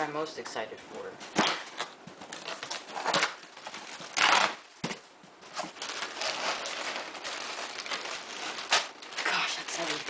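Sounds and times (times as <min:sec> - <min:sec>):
cardboard and packing rustling: 0:01.0 - 0:10.0.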